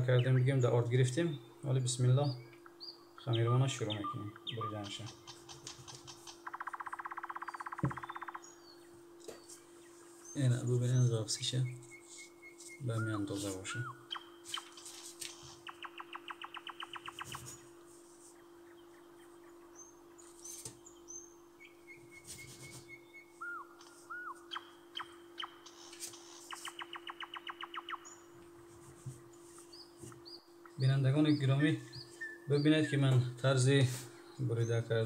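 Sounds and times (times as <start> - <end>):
songbird singing: 0.0 - 28.6, 29.2 - 35.0
steady low hum: 0.0 - 35.0.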